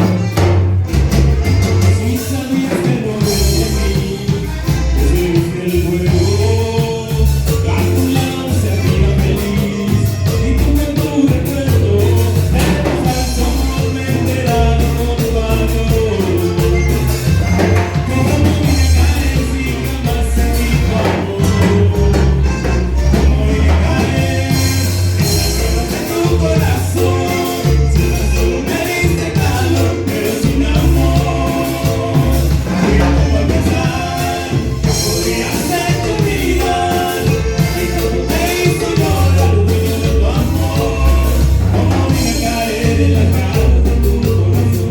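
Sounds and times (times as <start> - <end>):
latin band with singing: 0.0 - 44.9.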